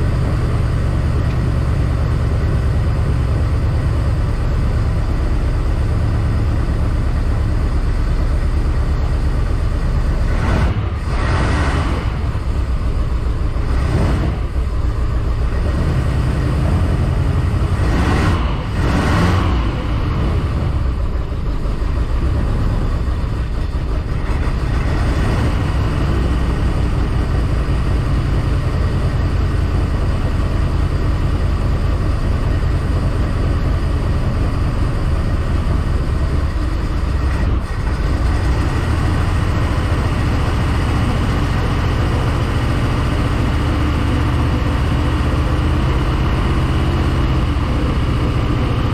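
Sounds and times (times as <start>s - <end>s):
boat engine rumbling: 0.0s - 48.9s.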